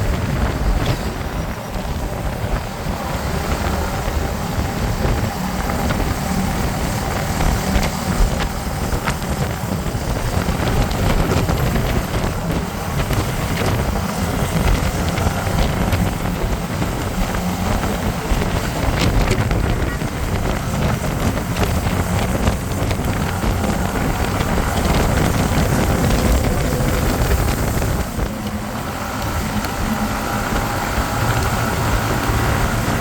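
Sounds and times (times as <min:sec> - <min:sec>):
motorcycle engine running: 0:00.0 - 0:33.0
road noise: 0:00.0 - 0:33.0
wind buffeting microphone: 0:00.0 - 0:33.0.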